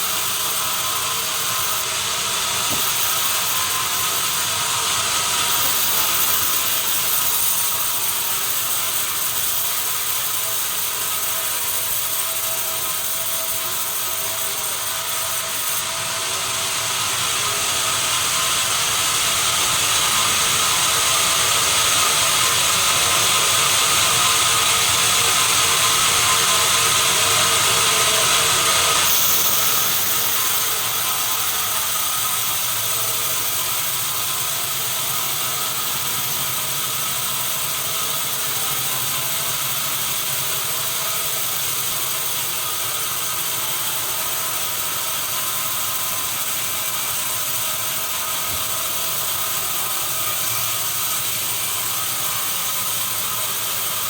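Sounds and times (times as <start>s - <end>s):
sawmill machinery whirring: 0.0s - 54.0s.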